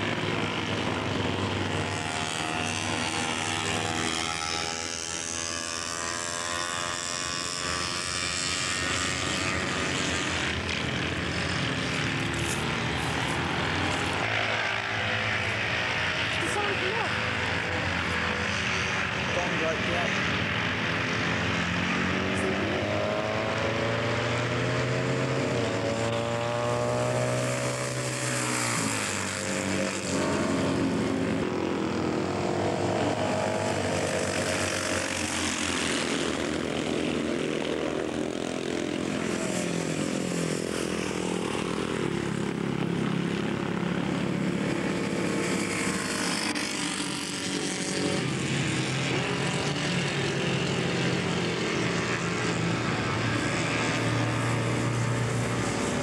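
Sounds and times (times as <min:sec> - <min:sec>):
racing motorcycle engines: 0:00.0 - 0:56.0.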